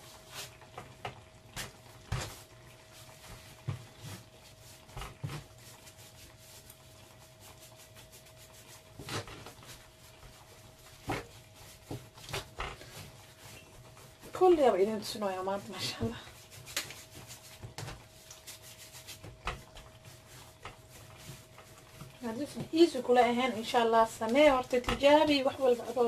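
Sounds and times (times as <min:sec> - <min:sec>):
hands rolling and patting dough: 0:00.0 - 0:26.0.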